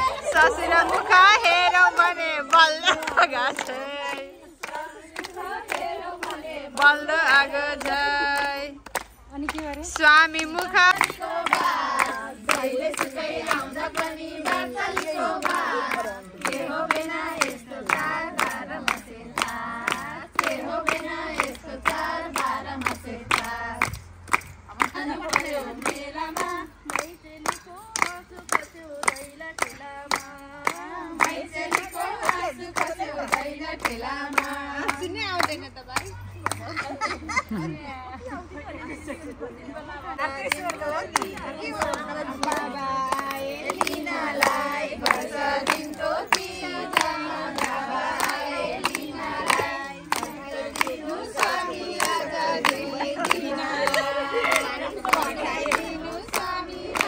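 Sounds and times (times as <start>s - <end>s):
women singing in chorus: 0.0s - 35.8s, 36.4s - 57.0s
hand clapping: 0.3s - 36.9s, 40.5s - 57.0s.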